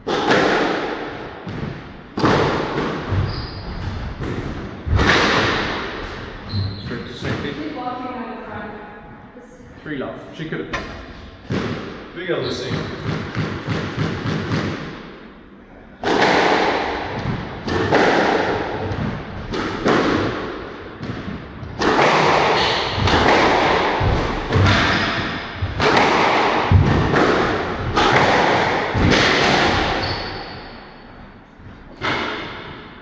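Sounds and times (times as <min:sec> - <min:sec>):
ball hitting court walls: 0:00.0 - 0:07.6, 0:10.7 - 0:12.0, 0:12.6 - 0:15.2, 0:16.0 - 0:32.9
squash racket strikes: 0:00.0 - 0:07.8, 0:10.7 - 0:15.4, 0:16.0 - 0:33.0.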